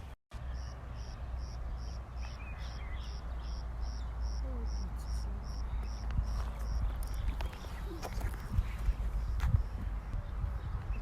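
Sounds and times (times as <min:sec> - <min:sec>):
insect chirping: 0:00.6 - 0:09.8.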